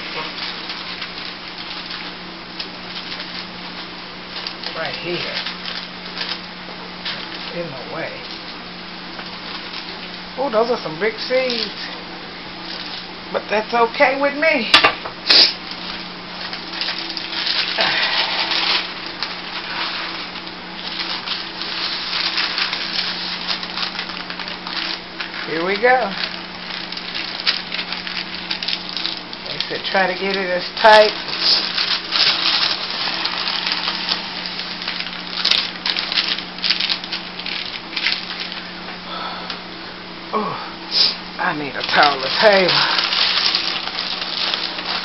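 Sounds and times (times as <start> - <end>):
paper crinkling and rustling: 0.0 - 10.8, 15.6 - 39.0, 41.4 - 45.0
steady low hum: 0.0 - 45.0.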